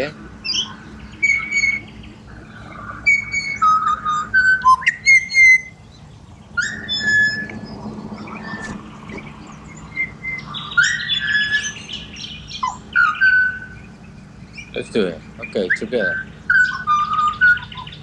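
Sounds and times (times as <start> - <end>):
birds singing fluted whistles: 0.0 - 18.0.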